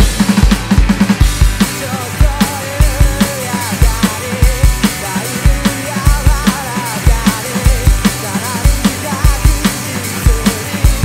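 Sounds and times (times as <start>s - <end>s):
electronic drum kit rock beat: 0.0s - 11.0s
rock backing track: 0.0s - 11.0s.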